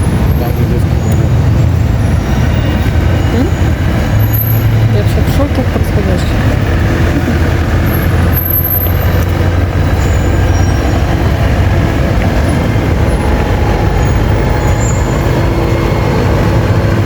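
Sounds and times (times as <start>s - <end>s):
large vehicle engine humming: 0.0s - 17.0s
street traffic noise: 0.0s - 17.0s.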